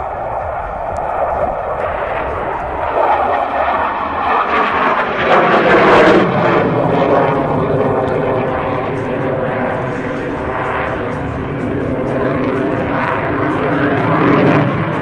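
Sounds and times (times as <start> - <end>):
fighter jet roaring overhead: 0.0 - 15.0.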